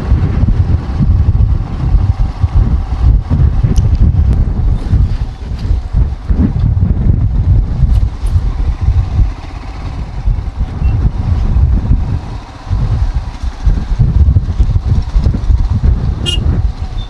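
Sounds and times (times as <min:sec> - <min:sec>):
motorcycle riding: 0:00.0 - 0:17.0
wind buffeting microphone: 0:00.0 - 0:17.0.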